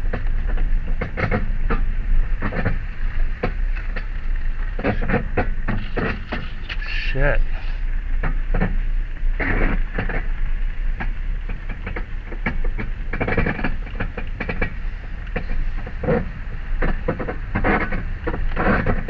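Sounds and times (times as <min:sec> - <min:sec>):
car grinding noise: 0:00.0 - 0:19.0
low rumble: 0:00.0 - 0:19.0.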